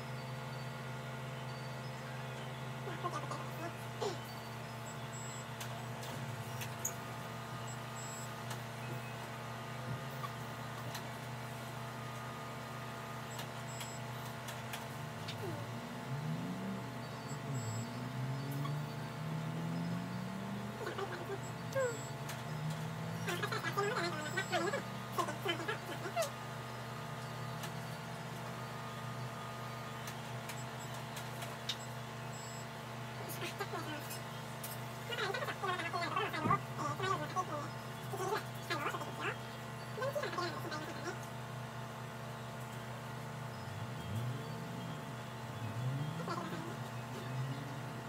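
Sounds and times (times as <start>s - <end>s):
low hum of medical equipment: 0.0s - 48.0s.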